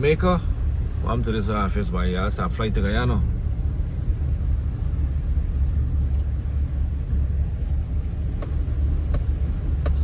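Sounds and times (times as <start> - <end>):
car engine and tyres rumble: 0.0 - 10.0.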